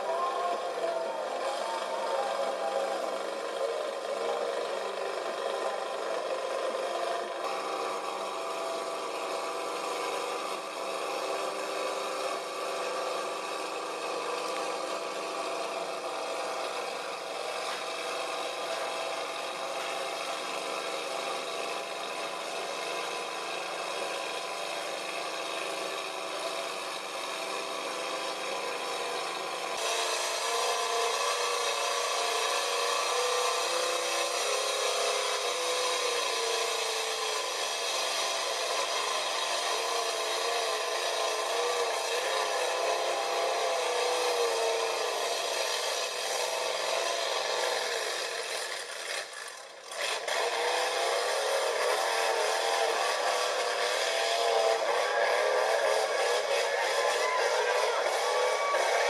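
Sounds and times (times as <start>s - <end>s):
truck engine revving high: 0.0s - 59.0s.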